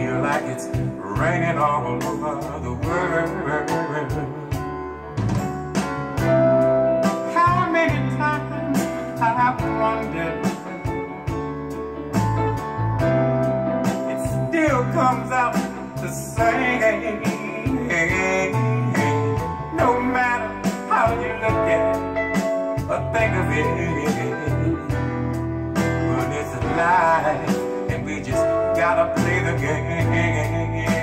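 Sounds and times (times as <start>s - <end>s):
man singing: 0.0s - 5.2s, 6.2s - 11.4s, 13.8s - 31.0s
guitar: 0.0s - 31.0s
soul ballad over loudspeakers: 0.0s - 31.0s.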